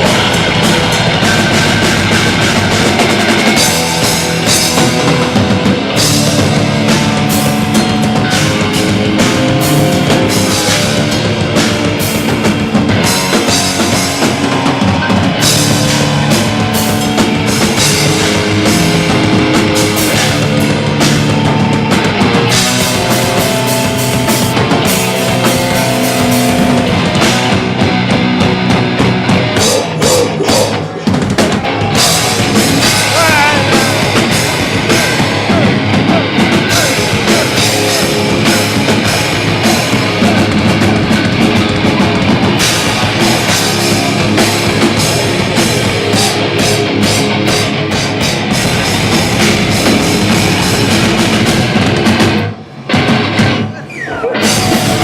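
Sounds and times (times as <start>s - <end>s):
drum kit: 0.0s - 55.0s
rock band playing: 0.0s - 55.0s.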